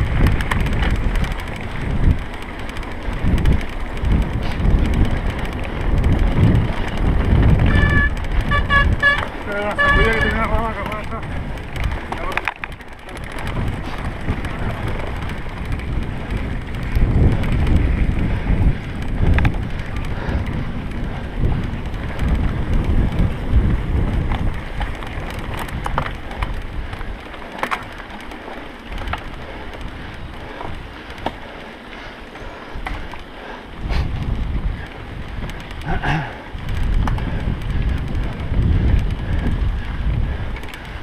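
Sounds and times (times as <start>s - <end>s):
bike rattling with clicks: 0.0s - 41.0s
tyres running on dirt: 0.0s - 41.0s
wind buffeting microphone: 0.0s - 41.0s.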